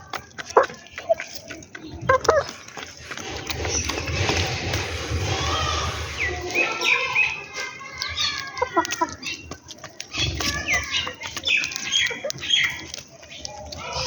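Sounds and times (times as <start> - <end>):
sparrows chirping: 0.0 - 14.0
wings fluttering: 0.0 - 14.0.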